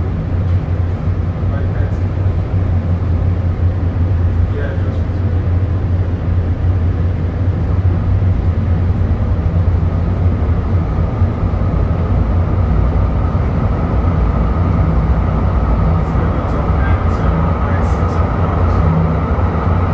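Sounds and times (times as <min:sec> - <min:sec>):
train wheels rumbling on rail: 0:00.0 - 0:19.9.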